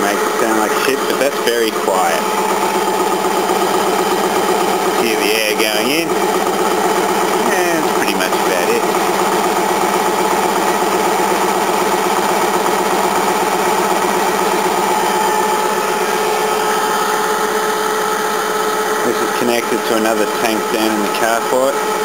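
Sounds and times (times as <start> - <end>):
piston air compressor running: 0.0 - 22.0.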